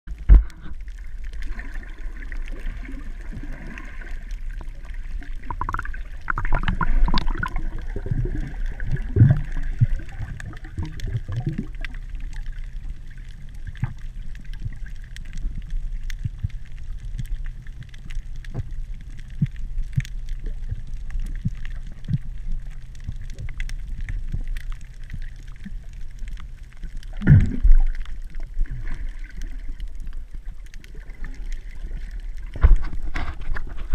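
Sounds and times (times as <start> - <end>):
underwater rumble and hiss: 0.1 - 33.9
water gurgling and bubbling: 0.1 - 33.9.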